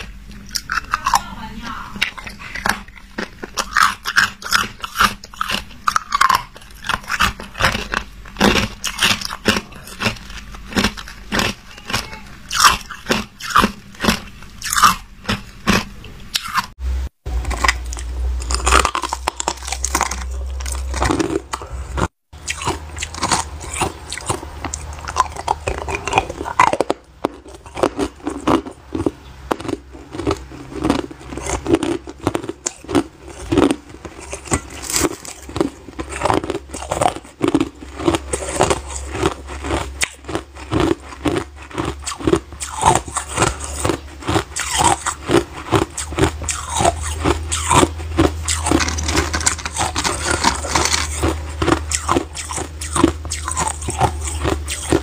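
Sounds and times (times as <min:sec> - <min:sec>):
ice crunching in mouth: 0:00.0 - 0:01.4, 0:02.0 - 0:16.7, 0:17.4 - 0:55.0.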